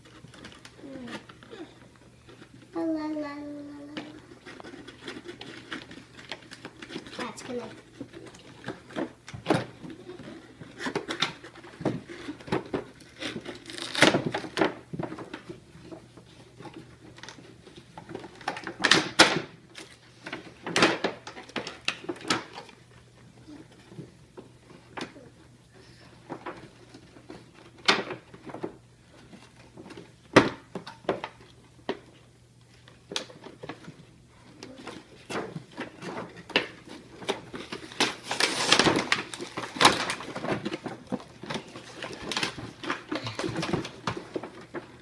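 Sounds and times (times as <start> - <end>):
toy packaging clicks and knocks: 0.0 - 2.7, 3.9 - 25.4, 26.0 - 45.0
packaging rustling and tearing: 0.0 - 2.8, 4.1 - 31.6, 32.7 - 45.0.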